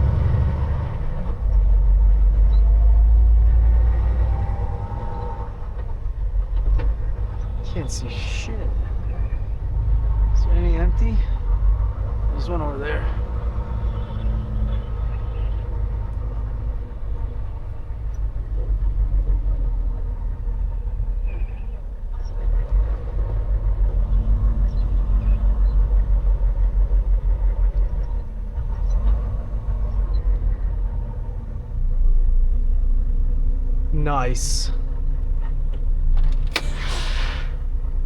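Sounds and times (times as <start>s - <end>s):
truck diesel engine rumbling: 0.0s - 38.0s.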